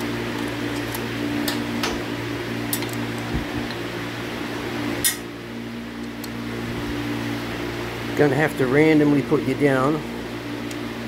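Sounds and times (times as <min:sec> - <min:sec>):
electric fan motor hum: 0:00.0 - 0:11.0.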